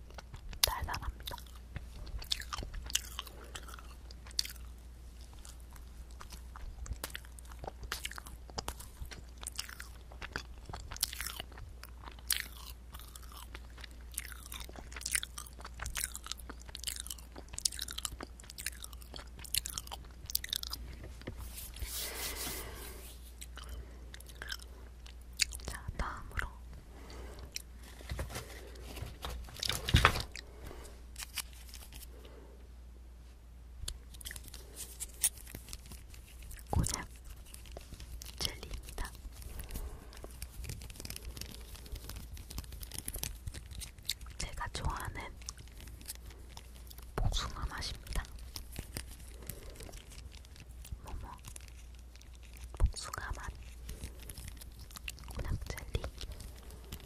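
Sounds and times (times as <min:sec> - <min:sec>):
wet chewing with mouth clicks: 0:00.0 - 0:32.4, 0:33.8 - 0:57.0.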